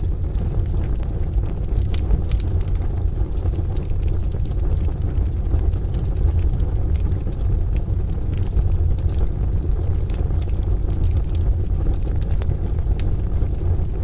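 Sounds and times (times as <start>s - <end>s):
wood fire crackling in stove: 0.0s - 14.0s.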